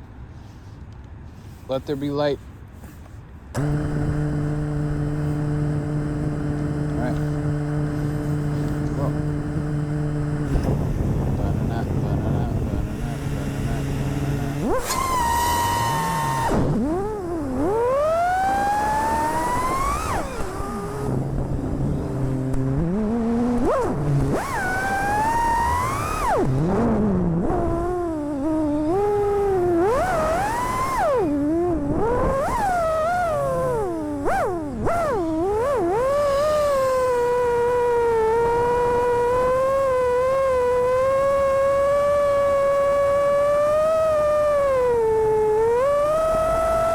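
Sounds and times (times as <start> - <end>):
drone propellers whining: 3.6 - 46.9.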